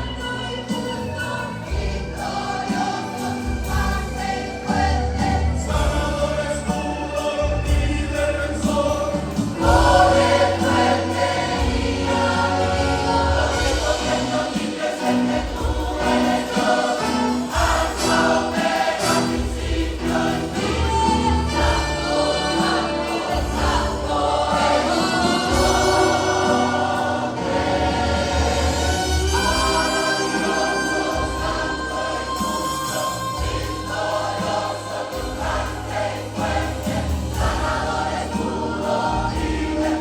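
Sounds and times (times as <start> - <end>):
choir singing worship song: 0.0 - 40.0
instrumental accompaniment: 0.0 - 40.0.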